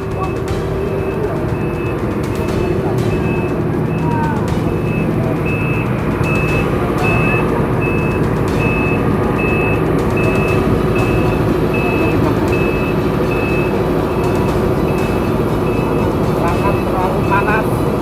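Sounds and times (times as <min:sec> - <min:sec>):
diesel engine running: 0:00.0 - 0:18.0
reversing alarm beeping: 0:00.0 - 0:18.0.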